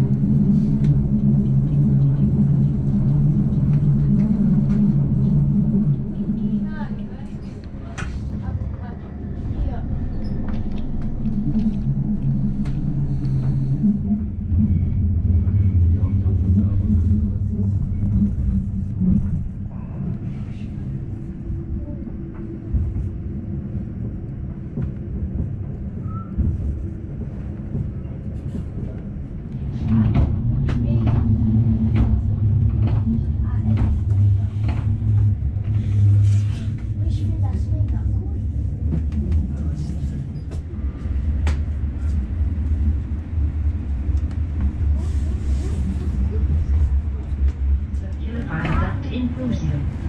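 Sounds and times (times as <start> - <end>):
train rumbling inside carriage: 0.0 - 50.0.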